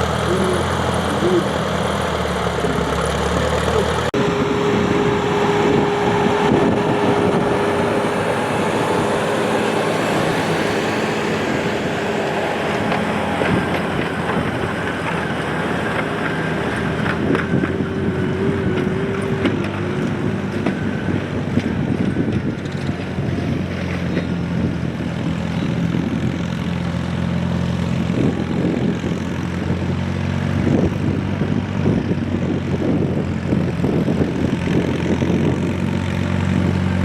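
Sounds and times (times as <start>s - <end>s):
engine whining tone: 0.0s - 37.0s
tractor engine under load: 0.0s - 37.0s.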